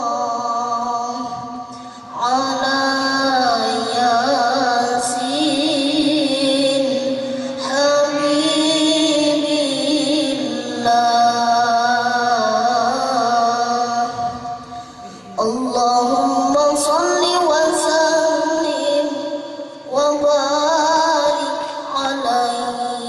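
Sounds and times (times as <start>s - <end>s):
boy chanting through loudspeaker: 0.0s - 23.0s.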